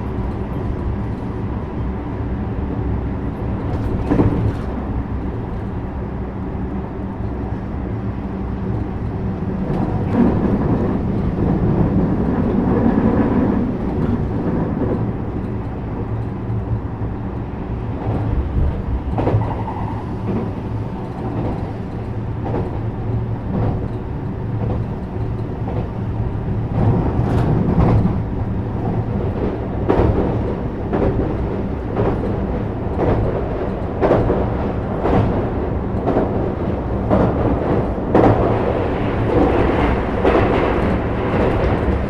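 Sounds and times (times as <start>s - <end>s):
train rumble and motor hum: 0.0s - 42.0s.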